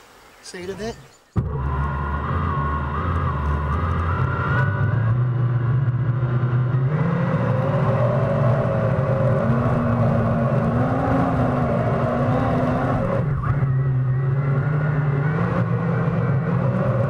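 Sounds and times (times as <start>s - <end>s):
low rumble: 1.4s - 17.0s.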